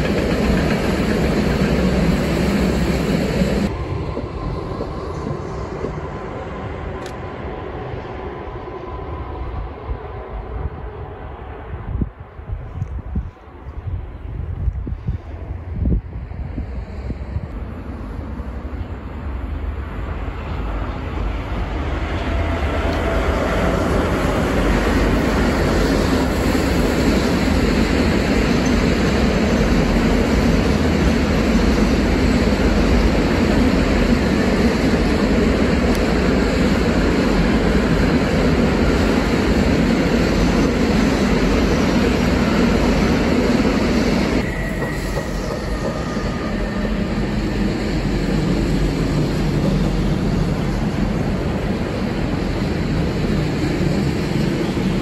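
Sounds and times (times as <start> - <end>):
freight train rumbling on rails: 0.0 - 55.0.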